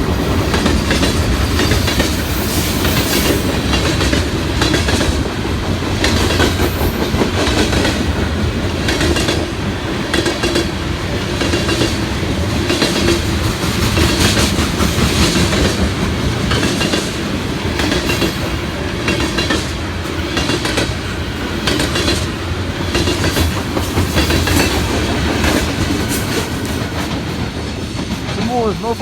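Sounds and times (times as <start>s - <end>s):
freight train rumbling past: 0.0s - 29.0s
wheels clacking over rail joints: 0.2s - 29.0s.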